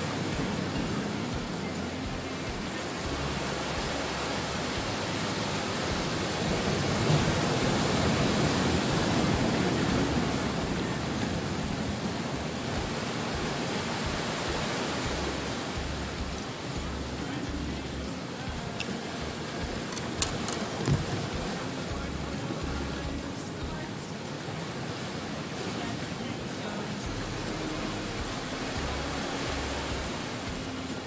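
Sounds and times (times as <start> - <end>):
sea surf rushing against shore: 0.0 - 31.0.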